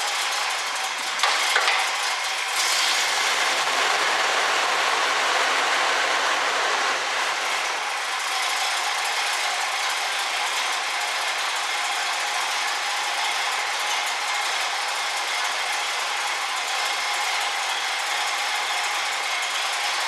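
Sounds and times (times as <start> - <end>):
car engine idling with clatter: 0.0 - 20.0.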